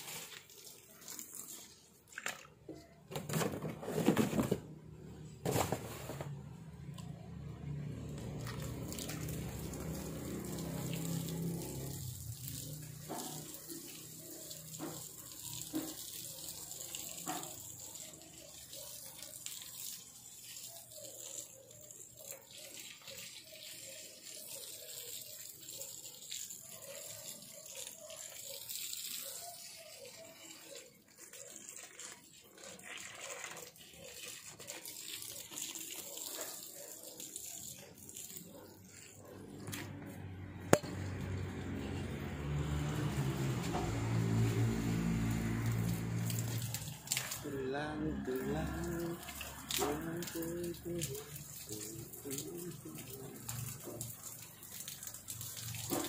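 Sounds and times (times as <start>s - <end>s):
water running and splashing: 0.0s - 2.8s, 7.0s - 40.3s, 40.9s - 56.0s.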